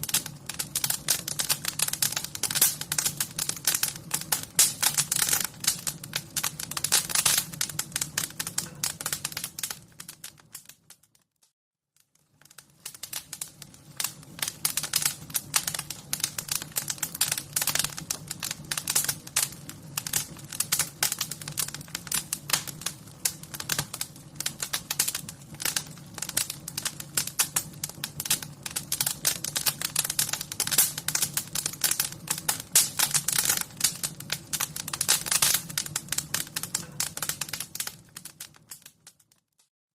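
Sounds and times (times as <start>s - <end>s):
wood fire crackling: 0.0s - 11.2s, 12.0s - 39.5s.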